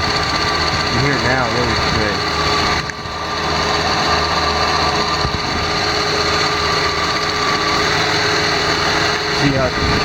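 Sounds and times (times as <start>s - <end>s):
car engine idling: 0.0s - 10.0s
engine clicking: 0.0s - 10.0s.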